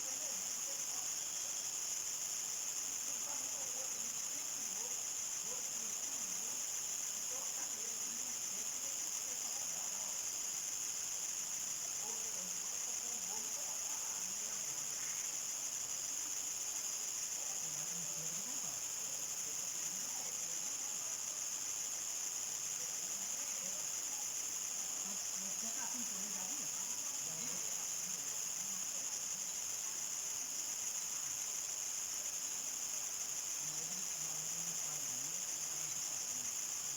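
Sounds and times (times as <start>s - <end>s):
crickets chirping: 0.0s - 36.9s.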